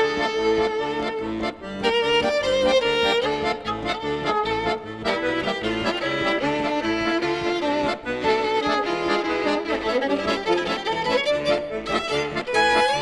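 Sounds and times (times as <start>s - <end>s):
bowed strings melody: 0.0s - 13.0s.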